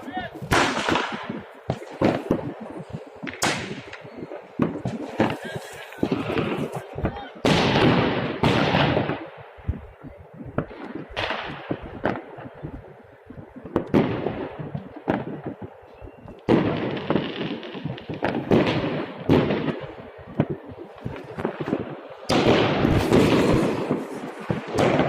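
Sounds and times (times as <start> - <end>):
firework shells bursting: 0.0 - 25.0.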